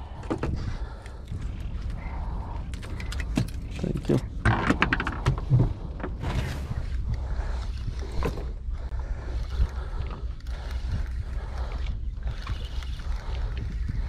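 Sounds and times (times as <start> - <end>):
boat engine rumble: 0.0 - 14.0
water noise: 0.0 - 14.0
wind: 0.0 - 14.0.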